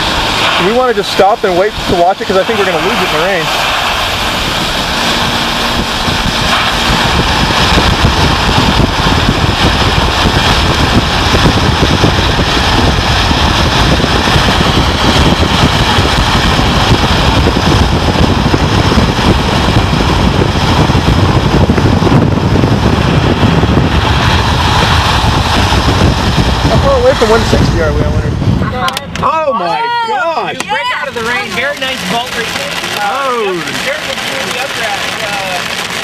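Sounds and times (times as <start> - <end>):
rain on car roof and windshield: 0.0 - 36.0
road and wind noise: 0.0 - 36.0.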